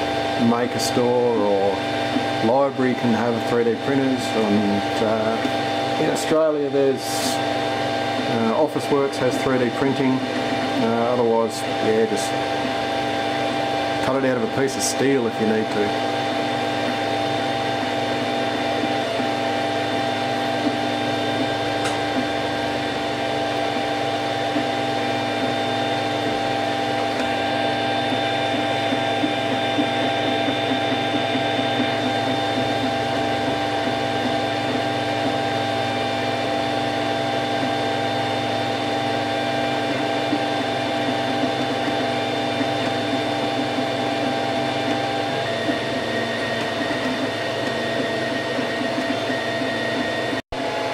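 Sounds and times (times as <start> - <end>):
three d printer motors whining: 0.0 - 50.9.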